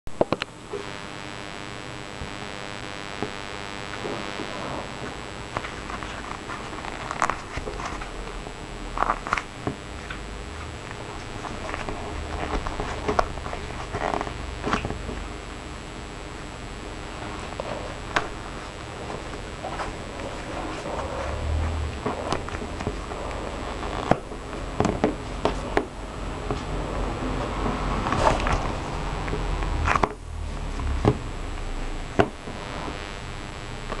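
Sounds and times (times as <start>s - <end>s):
low steady hum: 0.1s - 34.0s.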